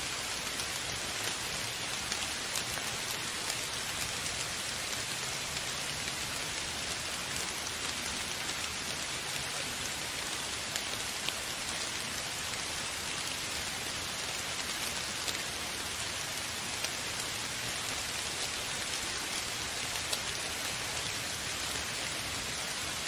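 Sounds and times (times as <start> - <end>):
steady rain falling: 0.0 - 23.0
individual raindrop ticks: 0.2 - 22.2.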